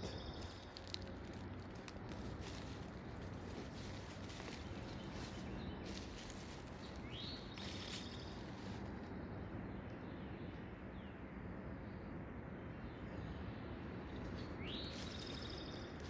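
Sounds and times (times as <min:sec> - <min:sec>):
birds chirping: 0:00.0 - 0:11.2, 0:12.7 - 0:16.0.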